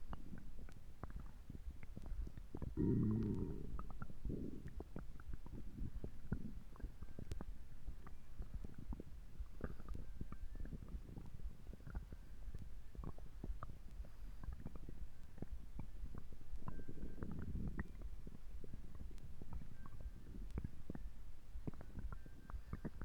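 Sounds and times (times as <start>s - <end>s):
stomach gurgling and rumbling: 0.0s - 23.0s.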